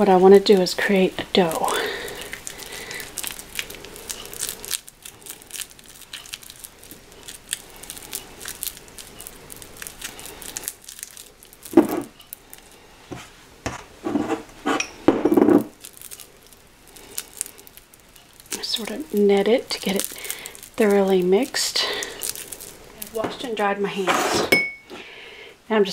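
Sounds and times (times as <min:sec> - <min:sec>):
soft wet squishing: 0:00.0 - 0:13.1, 0:15.7 - 0:23.6
hands kneading sticky dough: 0:00.0 - 0:14.8, 0:15.6 - 0:24.1.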